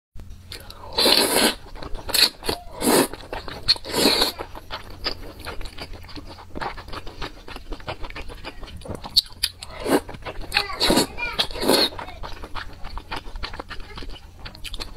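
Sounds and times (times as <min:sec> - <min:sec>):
wet chewing and mouth clicks: 0:00.5 - 0:14.9
noodle slurping: 0:00.8 - 0:14.9.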